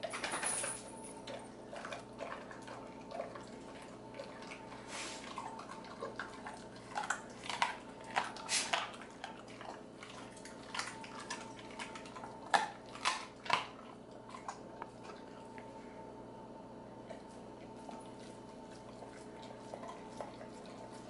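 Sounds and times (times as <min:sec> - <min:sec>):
dog chewing wet food: 0:00.9 - 0:16.2, 0:16.9 - 0:21.0.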